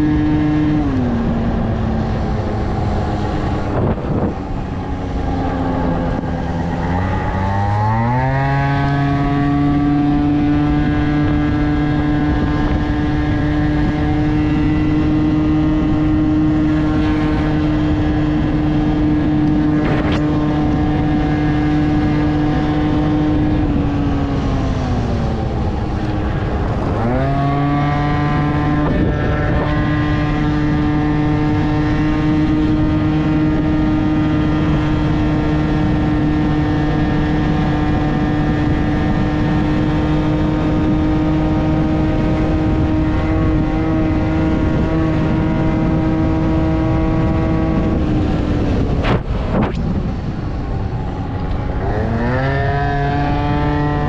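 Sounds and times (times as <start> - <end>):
scooter engine revving: 0.0 - 50.4, 51.3 - 54.0.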